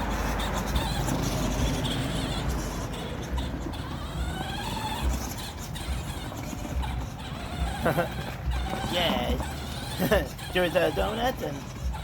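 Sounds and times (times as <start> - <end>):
toy truck electric motor whining: 0.0 - 12.0
tyre and drivetrain rush: 0.0 - 12.0.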